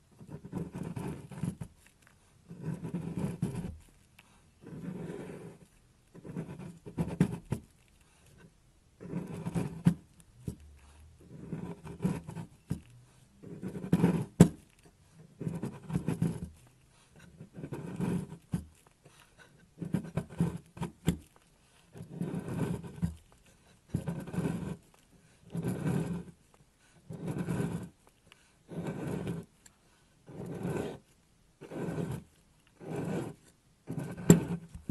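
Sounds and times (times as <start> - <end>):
knife scraping soap: 0.0 - 34.9.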